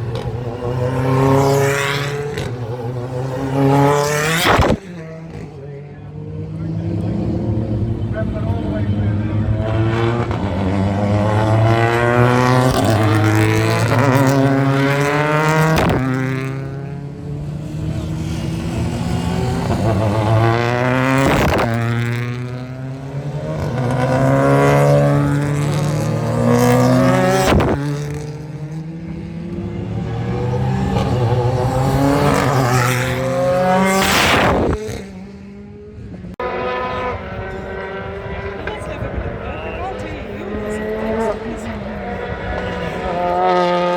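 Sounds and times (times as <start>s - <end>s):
race car engines passing: 0.0s - 43.9s.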